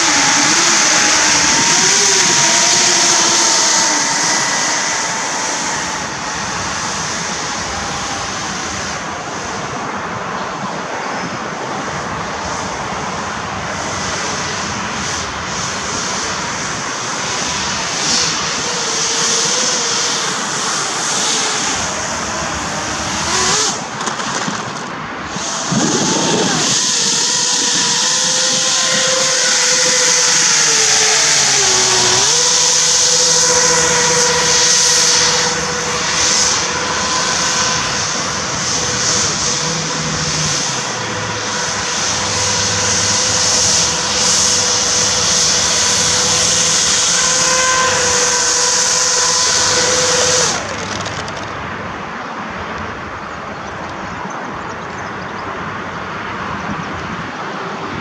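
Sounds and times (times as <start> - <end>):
hovercraft propellers whining: 0.0 - 58.0.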